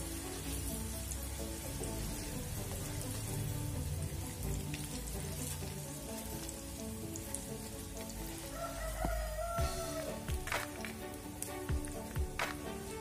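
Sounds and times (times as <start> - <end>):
background music: 0.0 - 13.0
hot oil sizzling: 0.0 - 13.0.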